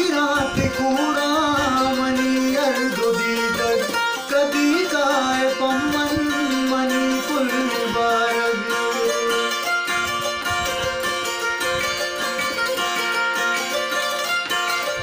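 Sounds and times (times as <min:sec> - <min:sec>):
plucked zither melody: 0:00.0 - 0:15.0.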